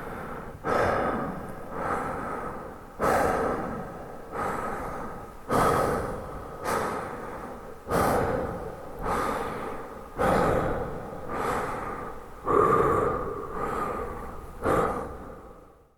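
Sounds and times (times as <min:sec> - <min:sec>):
man breathing rapidly: 0:00.0 - 0:15.9.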